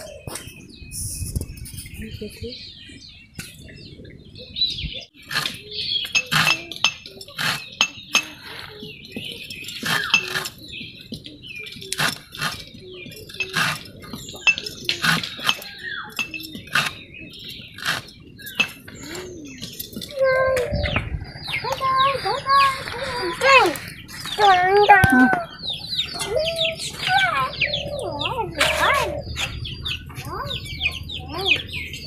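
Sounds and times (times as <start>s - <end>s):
birds chirping: 0.0s - 32.0s
low bird calls: 0.0s - 32.0s.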